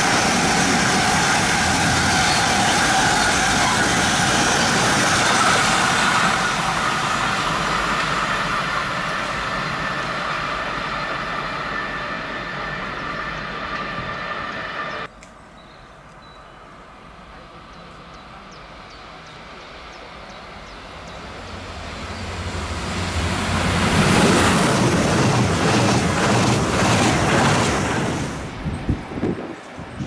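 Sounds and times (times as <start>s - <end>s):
high-speed train rushing by: 0.0s - 15.1s, 16.7s - 30.0s.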